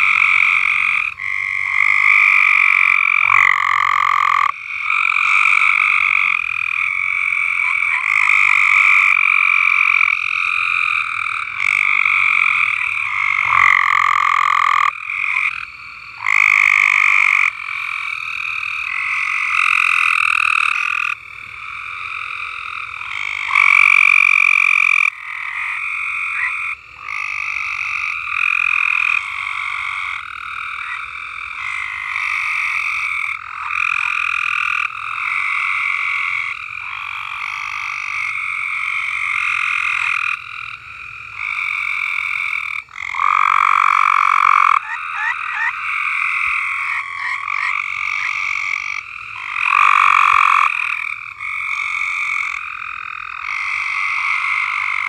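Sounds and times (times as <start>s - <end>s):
frogs calling: 0.0s - 55.0s.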